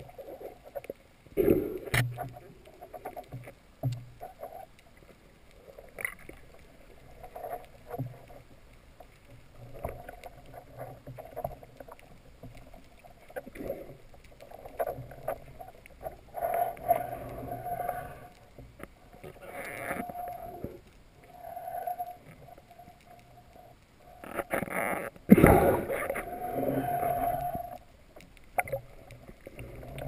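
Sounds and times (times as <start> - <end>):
muffled underwater gurgles and knocks: 0.0 - 30.0.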